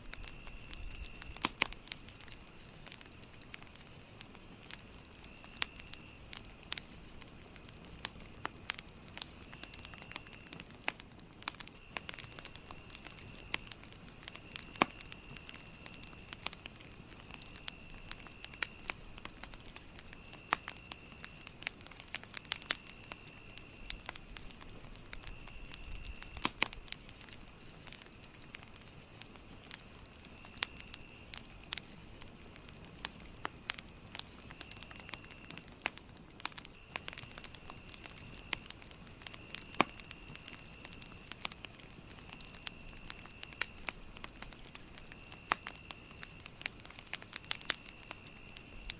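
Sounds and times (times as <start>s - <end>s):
campfire crackling and popping: 0.0s - 48.9s
insects chirping: 0.0s - 48.9s.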